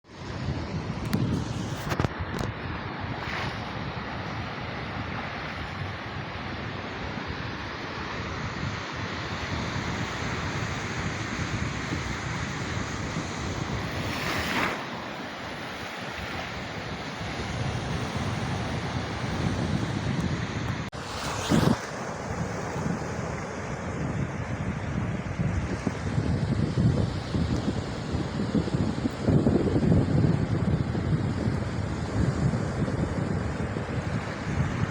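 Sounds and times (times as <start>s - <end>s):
sea waves breaking on beach: 0.1s - 34.9s
wind buffeting microphone: 0.1s - 34.9s.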